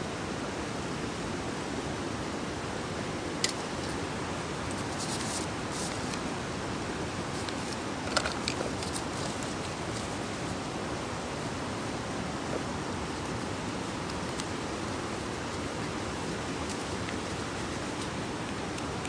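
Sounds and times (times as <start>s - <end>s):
steady rushing noise: 0.0s - 19.0s
campfire crackling: 3.4s - 19.0s.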